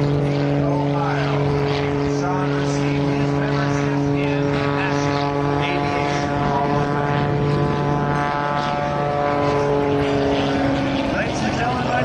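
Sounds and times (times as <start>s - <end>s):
propeller plane engine running: 0.0s - 12.0s.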